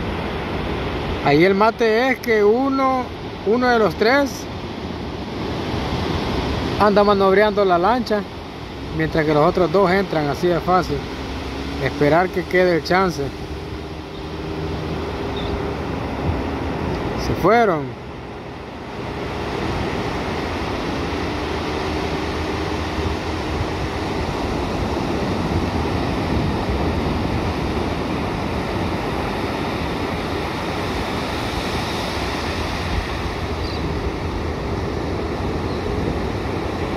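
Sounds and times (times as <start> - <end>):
ocean waves breaking on beach: 0.0 - 36.9.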